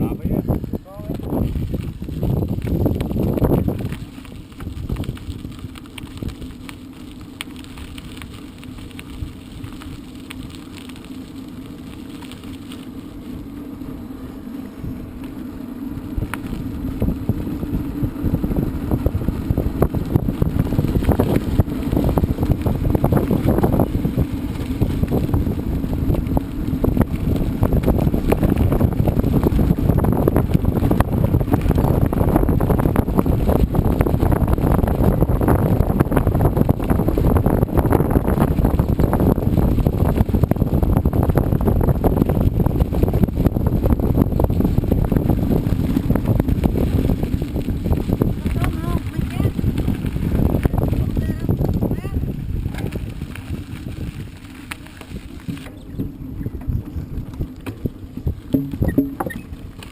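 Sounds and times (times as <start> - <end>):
bike rattling over bumps: 0.0 - 59.9
bike tyres rolling on trail: 0.0 - 59.9
wind rumbling on microphone: 0.0 - 59.9.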